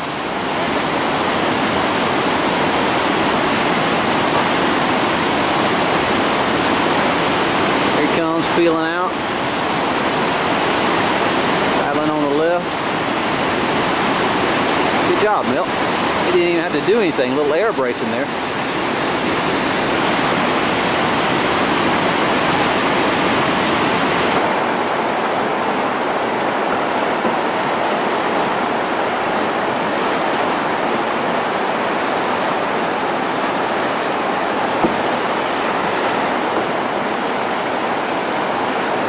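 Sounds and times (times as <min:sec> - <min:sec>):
river rapids roaring: 0:00.0 - 0:39.0.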